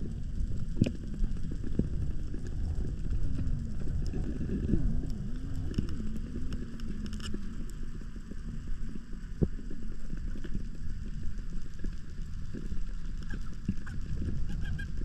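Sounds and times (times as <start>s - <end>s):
underwater low rumble: 0.0s - 15.0s.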